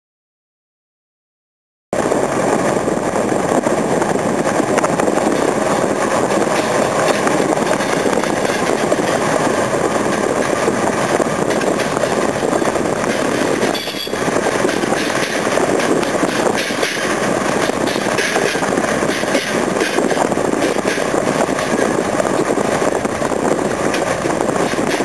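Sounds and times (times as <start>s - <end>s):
rushing wind: 1.9s - 25.0s
car road noise: 2.0s - 25.0s
freight train running: 2.0s - 25.0s.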